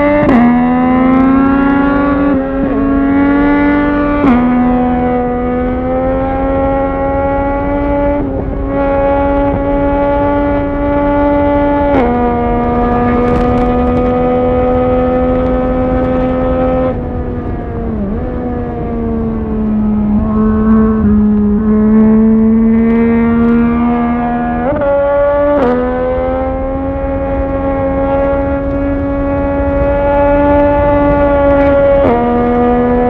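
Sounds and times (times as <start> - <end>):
motorcycle engine revving: 0.0 - 33.0
wind rushing past microphone: 0.0 - 33.0.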